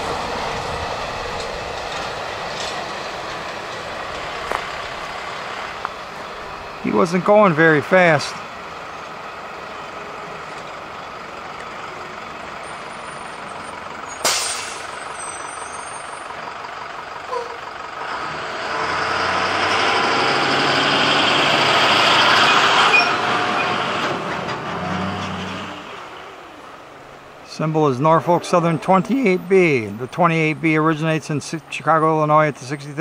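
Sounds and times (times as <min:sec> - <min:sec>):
heavy vehicle passing: 0:00.0 - 0:32.4.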